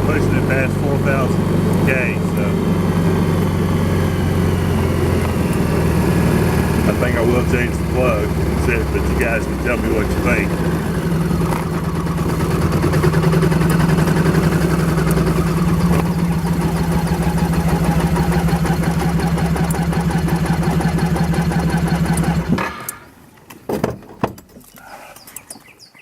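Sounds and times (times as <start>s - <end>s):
scooter engine running unevenly: 0.0s - 23.0s.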